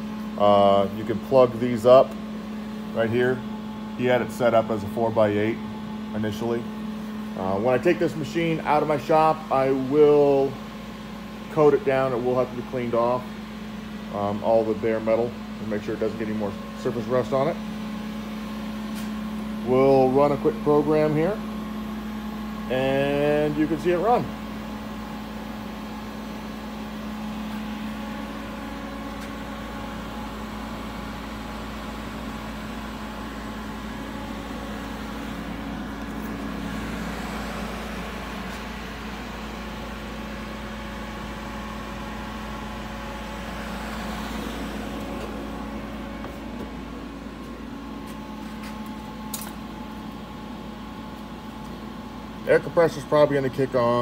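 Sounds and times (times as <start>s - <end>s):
router machine hum: 0.0s - 54.0s.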